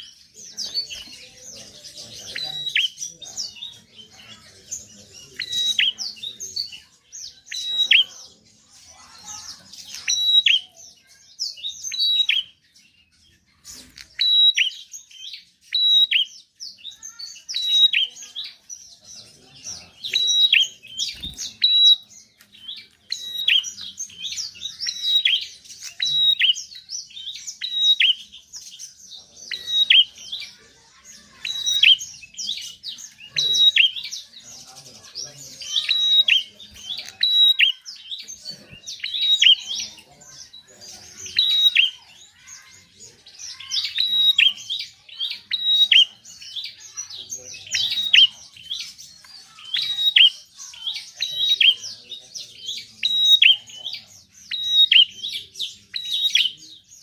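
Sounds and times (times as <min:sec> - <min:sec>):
small bird chirping rapidly: 0:00.0 - 0:52.0, 0:52.6 - 0:57.0.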